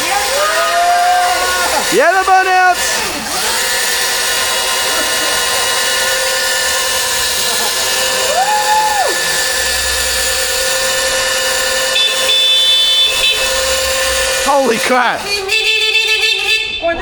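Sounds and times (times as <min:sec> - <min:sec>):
electric motor whining: 0:00.0 - 0:16.4.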